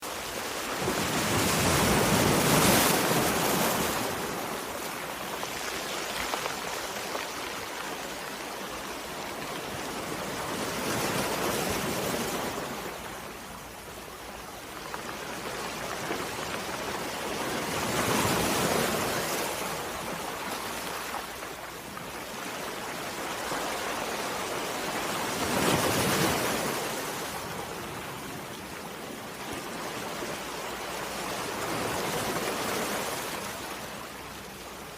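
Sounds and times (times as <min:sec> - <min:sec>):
sea waves lapping on shore: 0:00.0 - 0:34.9.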